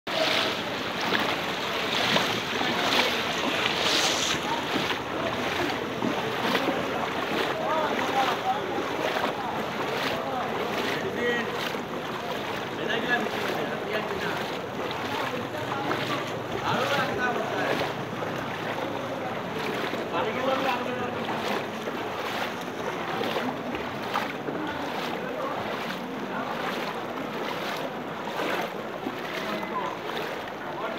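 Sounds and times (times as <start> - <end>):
people wading through floodwater: 0.1 - 30.9.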